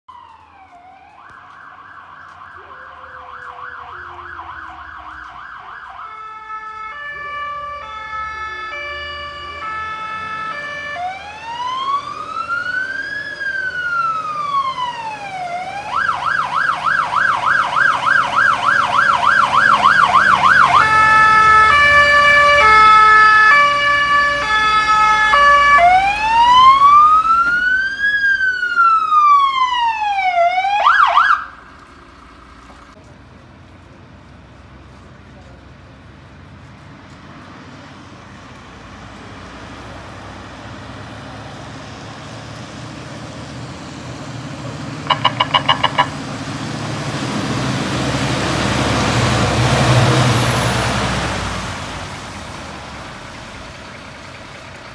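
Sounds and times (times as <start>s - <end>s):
fire engine siren: 0.1s - 32.2s, 38.6s - 54.9s.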